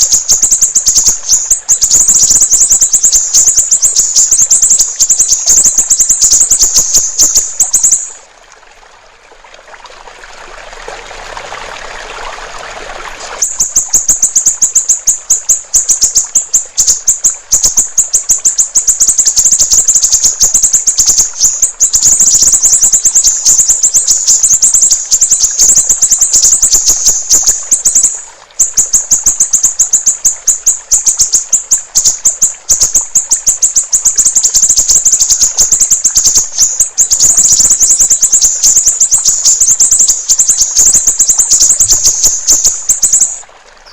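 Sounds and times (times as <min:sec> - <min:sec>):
bird chattering song: 0:00.0 - 0:08.2, 0:13.4 - 0:43.9
rushing hiss of water: 0:00.0 - 0:43.9.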